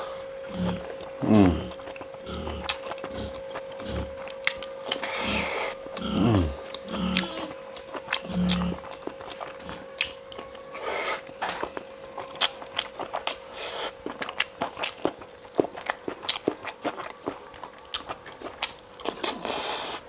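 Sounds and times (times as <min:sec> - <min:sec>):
chewing and biting food: 0:00.0 - 0:20.0
faint steady hum: 0:00.0 - 0:20.0.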